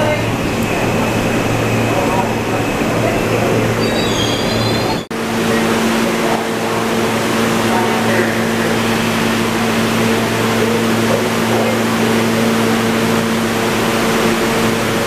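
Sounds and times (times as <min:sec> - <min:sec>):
steady train hum: 0:00.0 - 0:15.0
subway train wheels rumbling on rails: 0:00.0 - 0:15.0.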